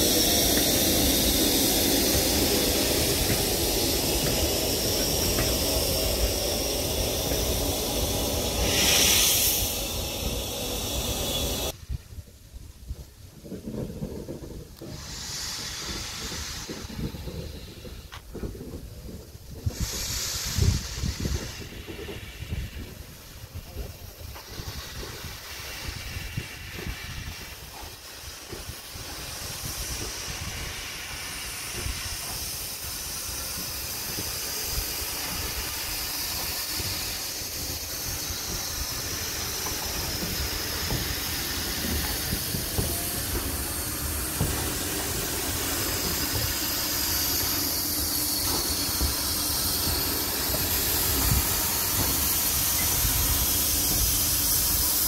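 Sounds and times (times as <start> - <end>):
locomotive running gear rumble: 0.0 - 11.8, 13.4 - 55.0
steam hissing: 0.0 - 55.0.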